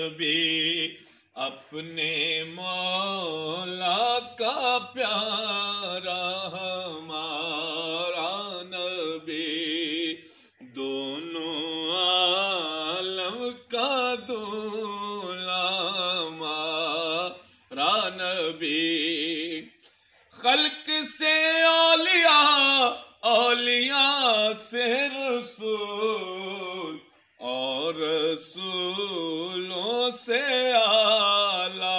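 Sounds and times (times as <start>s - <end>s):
man singing: 0.0s - 31.9s.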